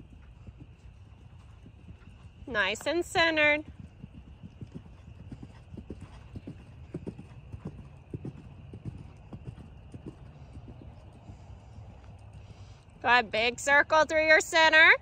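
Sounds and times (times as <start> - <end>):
hoofbeats on sand: 0.0 - 12.8.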